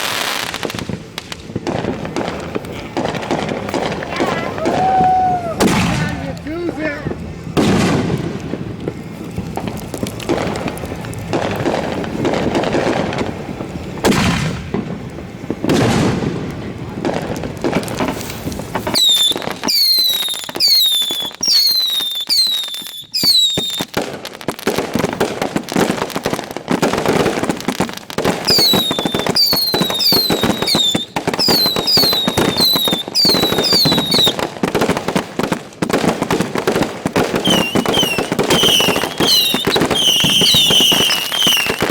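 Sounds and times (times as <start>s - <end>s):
falling firework whistles: 0.0s - 6.9s, 7.6s - 24.0s, 27.0s - 34.5s, 35.9s - 41.9s
fireworks booming and crackling: 0.0s - 41.9s.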